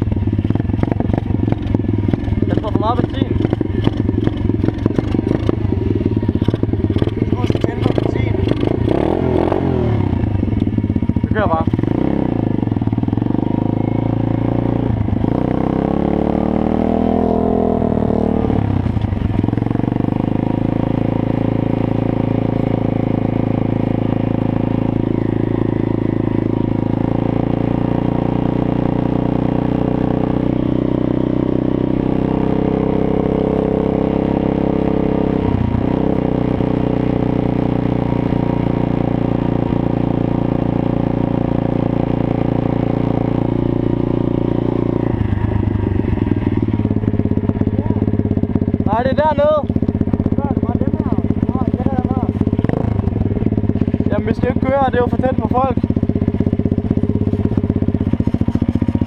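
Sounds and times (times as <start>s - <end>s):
small petrol engine running: 0.0s - 59.0s.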